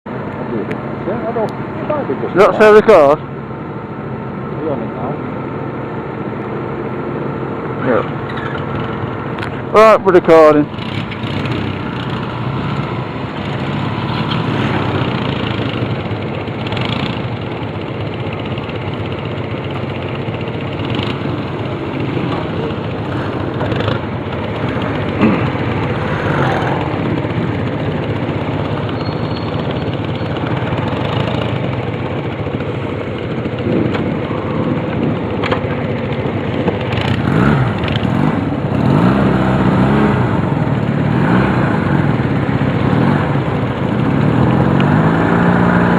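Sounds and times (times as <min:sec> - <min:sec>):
motorcycle engine running: 0:00.1 - 0:45.9.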